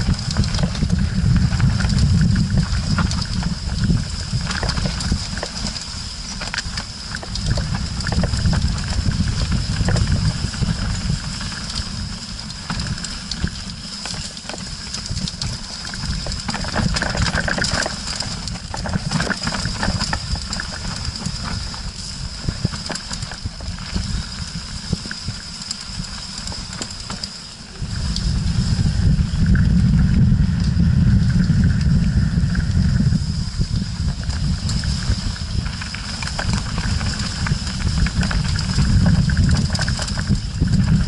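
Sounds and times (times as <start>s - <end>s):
wind and trail rumble: 0.0s - 41.0s.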